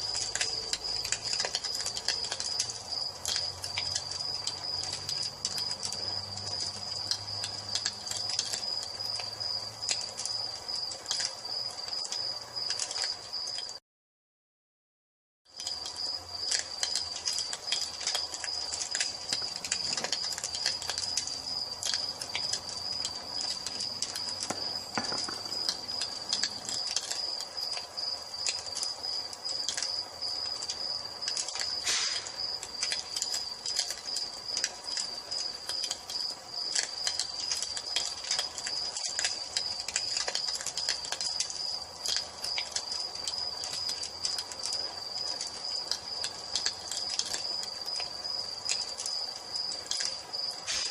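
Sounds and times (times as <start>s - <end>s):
crickets chirping: 0.0s - 13.8s, 15.5s - 50.9s
wood fire crackling and popping: 0.0s - 13.8s, 15.5s - 50.9s.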